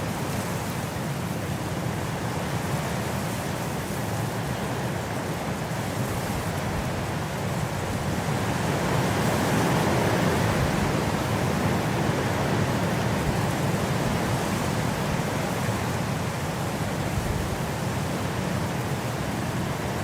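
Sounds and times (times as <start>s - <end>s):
steady wind: 0.0s - 20.0s.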